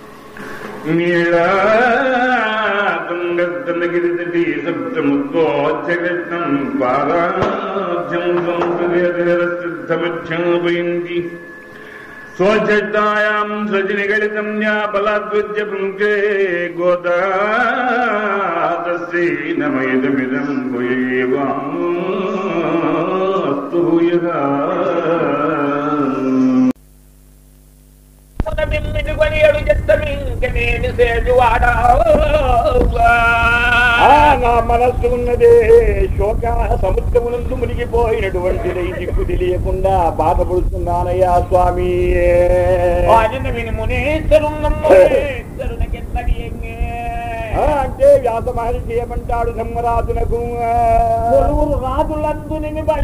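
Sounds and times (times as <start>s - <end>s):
faint steady hum: 0.0s - 53.0s
person chanting a devotional verse: 0.4s - 11.4s, 12.4s - 26.8s, 28.4s - 53.0s.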